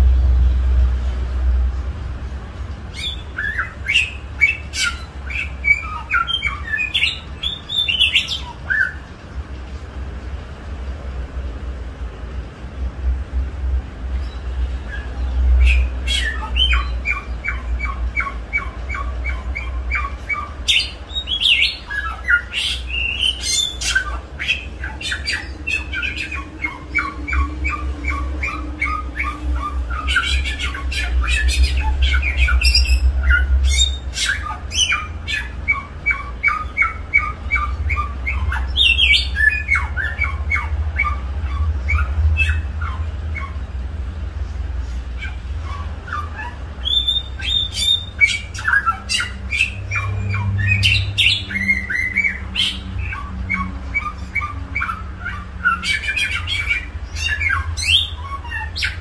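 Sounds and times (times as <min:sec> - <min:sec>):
songbird singing: 0:00.0 - 0:10.4, 0:11.4 - 0:59.0.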